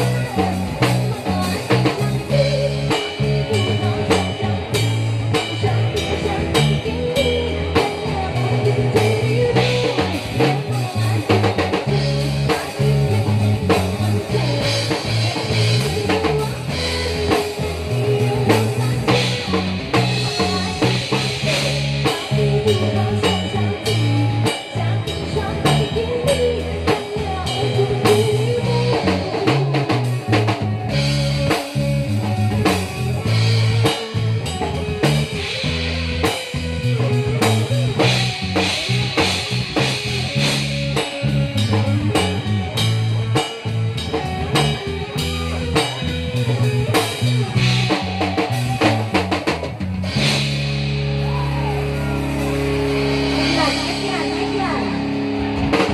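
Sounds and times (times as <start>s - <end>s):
bass: 0.0s - 55.9s
drum kit beat: 0.0s - 55.9s
electric guitar: 0.0s - 55.9s.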